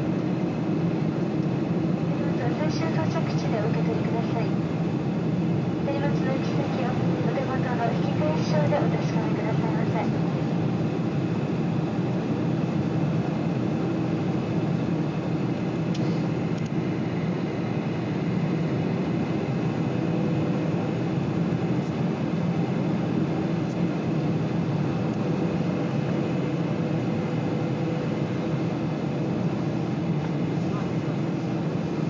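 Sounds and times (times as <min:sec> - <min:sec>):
jet engines humming: 0:00.0 - 0:32.0.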